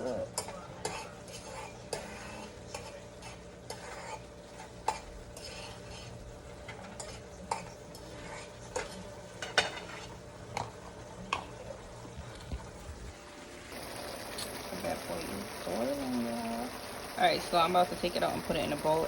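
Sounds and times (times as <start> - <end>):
meat sizzling in a pot: 0.4 - 19.0.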